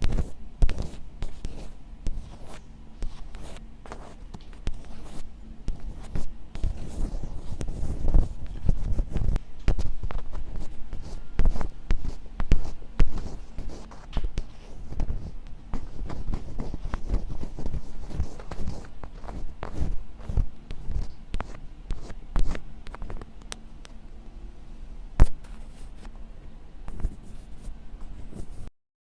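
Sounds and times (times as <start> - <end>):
crisp scratches and taps: 0.0 - 24.0, 26.9 - 28.7.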